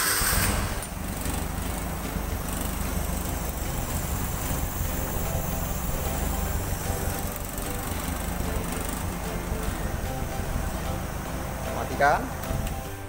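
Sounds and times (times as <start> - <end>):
petrol engine idling: 0.0 - 13.0.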